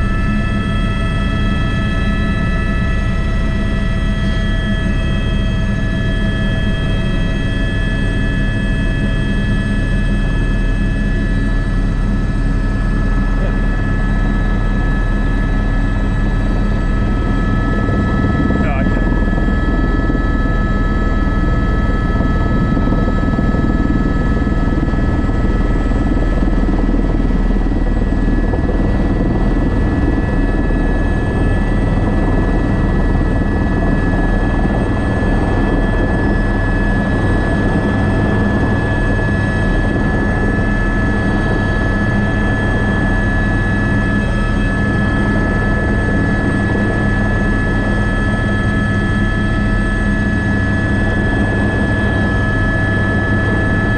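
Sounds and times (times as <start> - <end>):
helicopter running: 0.0 - 53.9.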